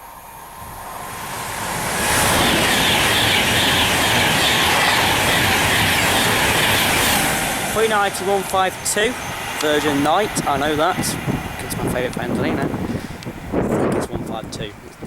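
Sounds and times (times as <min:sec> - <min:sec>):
electric train passing at speed: 0:00.0 - 0:14.7.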